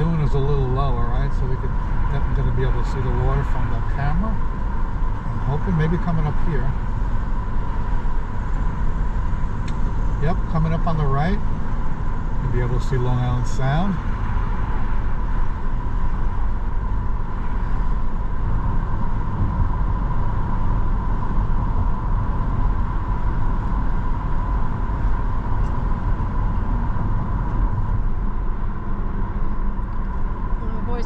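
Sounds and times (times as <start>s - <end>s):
car engine rumble: 0.0s - 31.0s
road and tyre noise: 0.0s - 31.0s.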